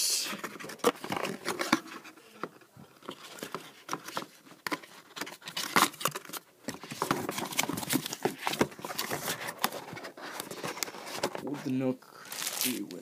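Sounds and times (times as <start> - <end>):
cardboard and plastic rustling: 0.3 - 13.0.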